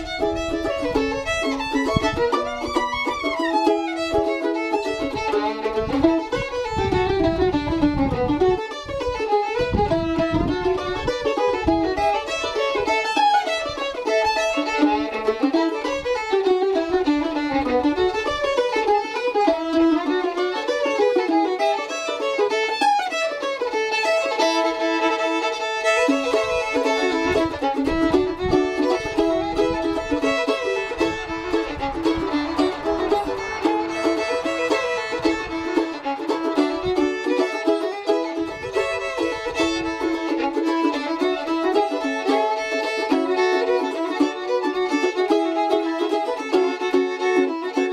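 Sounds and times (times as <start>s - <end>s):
fiddle playing a melody: 0.0s - 47.9s
strummed mandolin: 0.0s - 47.9s.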